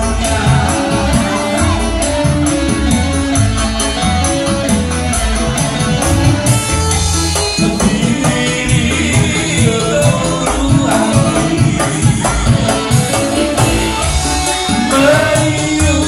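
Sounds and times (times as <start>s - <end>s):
jingling percussion: 0.0s - 16.0s
loud amplified music: 0.0s - 16.0s
men singing into microphones: 0.0s - 16.0s.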